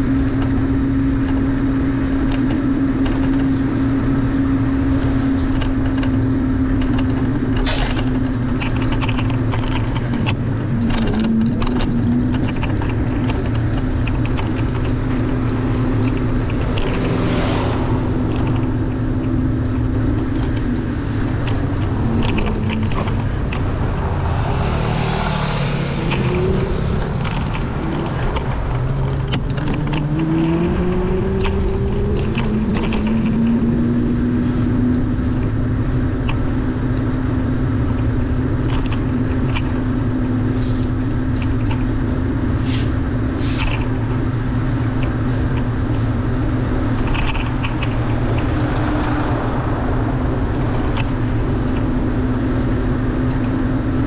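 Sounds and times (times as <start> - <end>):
car engine hum: 0.0 - 54.0
tyre and road noise: 0.0 - 54.0.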